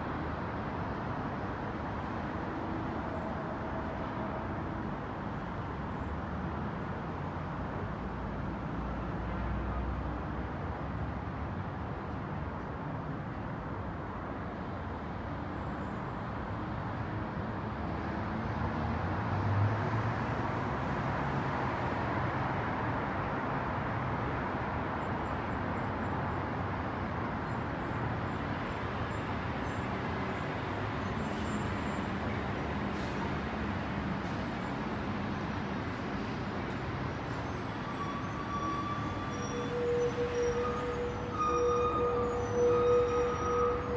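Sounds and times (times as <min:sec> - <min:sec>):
distant city traffic hum: 0:00.0 - 0:43.9.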